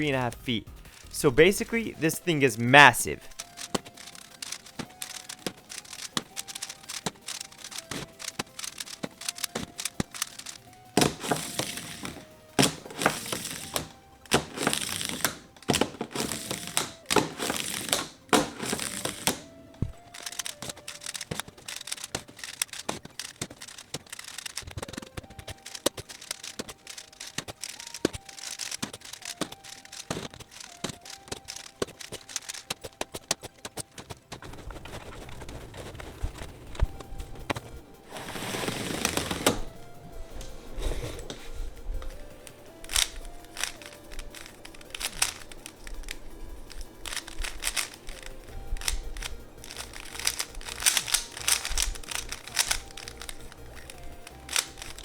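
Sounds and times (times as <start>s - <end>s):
background music melody: 0.0s - 55.0s
puzzle cubes clicking and crinkling: 0.0s - 55.0s.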